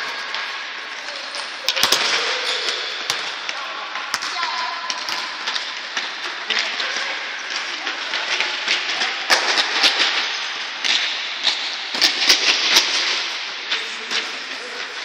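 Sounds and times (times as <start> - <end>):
players' footsteps: 0.0 - 15.0.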